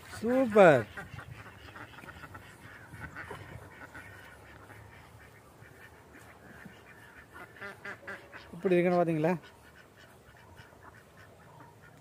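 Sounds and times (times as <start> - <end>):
ducks quacking faintly: 0.0 - 12.0.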